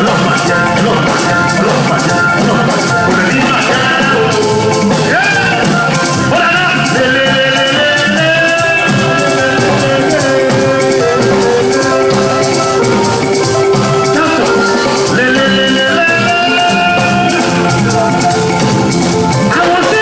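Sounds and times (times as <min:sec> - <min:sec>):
busy drums: 0:00.0 - 0:20.0
live band playing latin music: 0:00.0 - 0:20.0
shaken percussion: 0:00.0 - 0:20.0.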